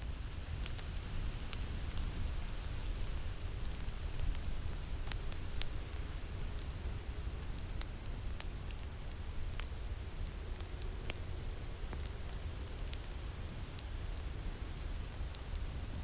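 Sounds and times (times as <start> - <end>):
fire crackling and popping: 0.0 - 16.0
low rumble of wind: 0.0 - 16.0.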